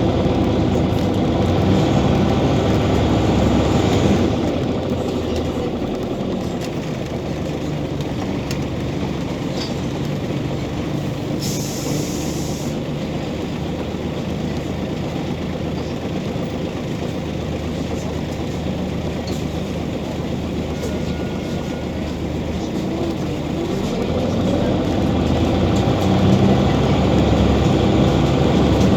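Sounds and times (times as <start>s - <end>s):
bus diesel engine running: 0.0s - 28.9s
road noise: 0.0s - 28.9s.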